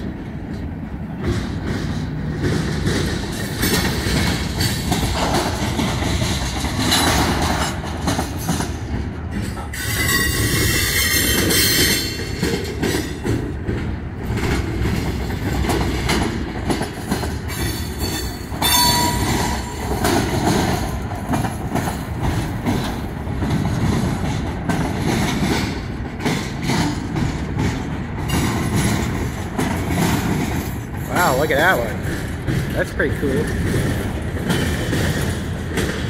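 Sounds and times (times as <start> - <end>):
steel wheels rumbling on rails: 0.0 - 36.0.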